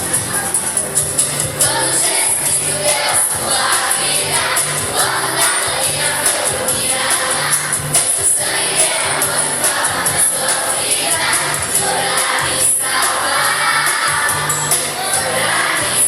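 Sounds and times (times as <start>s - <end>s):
children's choir singing: 0.0s - 16.0s
musical accompaniment: 0.0s - 16.0s.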